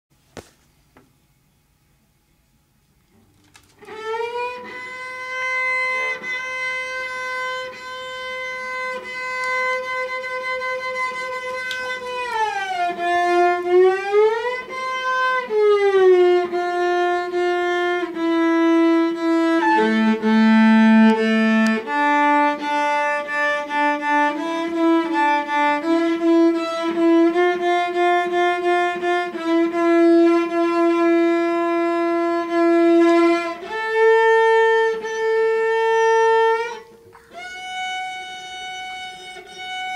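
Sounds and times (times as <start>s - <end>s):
bowed cello: 3.9s - 39.9s.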